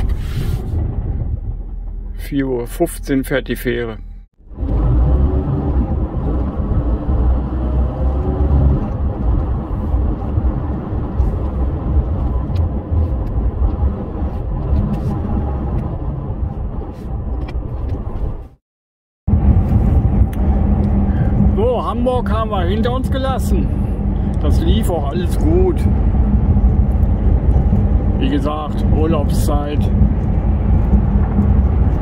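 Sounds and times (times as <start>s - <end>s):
lorry engine rumbling: 0.0s - 18.6s, 19.3s - 32.0s
road noise while driving: 0.0s - 18.6s, 19.3s - 32.0s.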